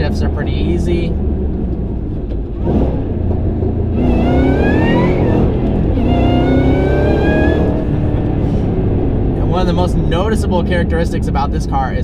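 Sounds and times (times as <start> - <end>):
supercharger whine: 0.0 - 11.8
car engine accelerating hard: 0.0 - 12.0.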